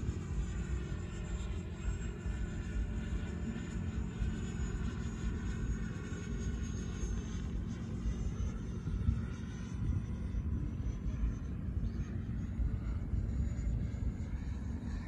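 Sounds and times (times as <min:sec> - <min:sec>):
distant rc jet fan whine: 0:00.0 - 0:15.0.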